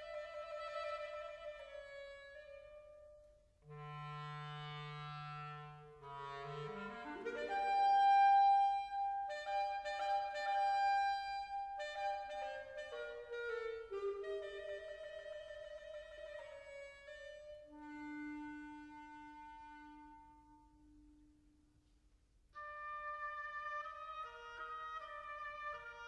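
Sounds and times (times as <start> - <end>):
instrumental music with woodwind melody: 0.0 - 21.7, 22.5 - 26.0.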